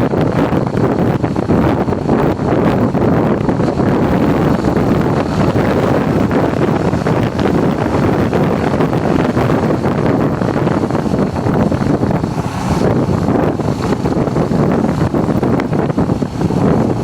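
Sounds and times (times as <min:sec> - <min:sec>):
vehicle running noise: 0:00.0 - 0:17.0
wind rushing over microphone: 0:00.0 - 0:17.0.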